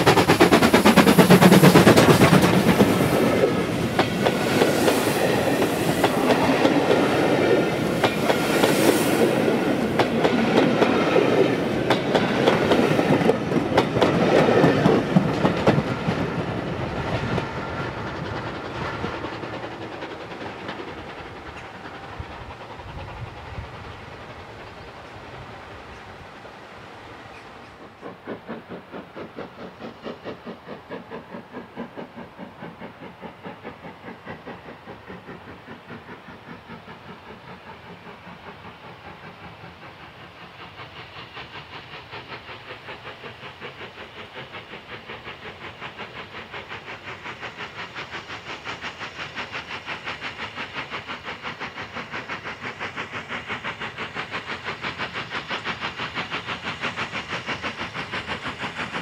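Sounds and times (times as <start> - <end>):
steam hiss: 0.0 - 59.0
steam locomotive exhaust beats: 0.0 - 59.0.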